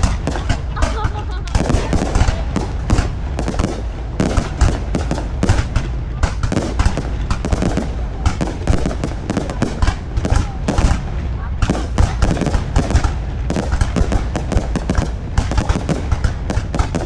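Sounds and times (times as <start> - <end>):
fireworks bangs and crackling: 0.0 - 17.0
low rumble: 0.0 - 17.0.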